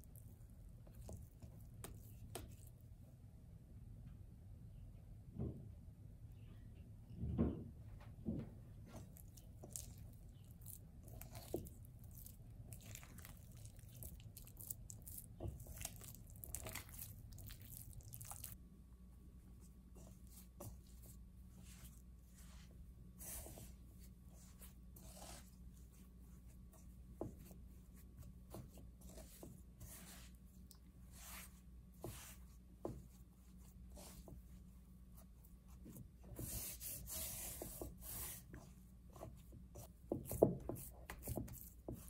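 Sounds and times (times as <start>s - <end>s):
dough being kneaded by hand: 0.0s - 3.2s, 8.2s - 42.0s.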